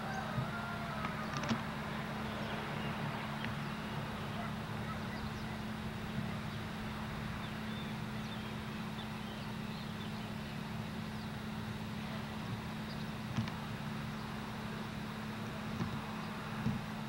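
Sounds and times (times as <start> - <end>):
low mechanical hum: 0.0 - 17.0
outdoor background noise: 0.0 - 17.0.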